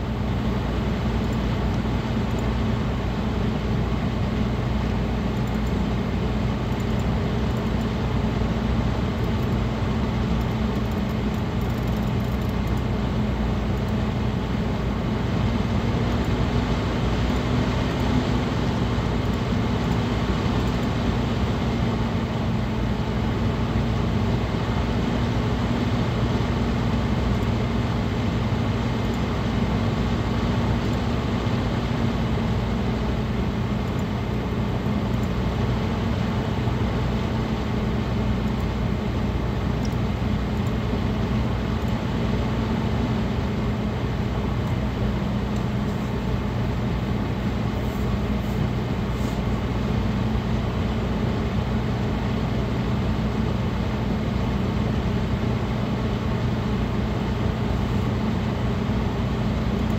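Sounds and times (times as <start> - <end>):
computer fans rushing air: 0.0 - 59.9.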